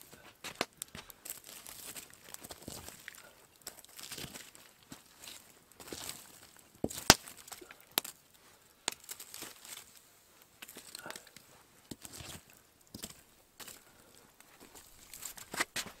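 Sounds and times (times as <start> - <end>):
burning logs knocking and cracking: 0.4 - 9.9, 10.6 - 16.0.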